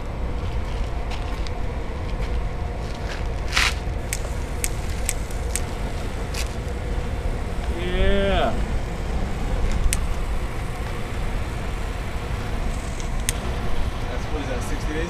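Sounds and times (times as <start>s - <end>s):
low rumble: 0.0s - 15.0s
whooshing hiss: 0.0s - 15.0s
burning paper crackling: 0.3s - 15.0s.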